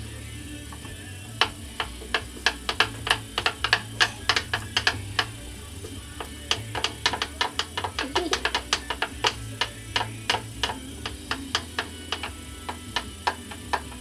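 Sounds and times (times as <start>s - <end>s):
wax crayons clicking on wood: 0.7s - 14.0s.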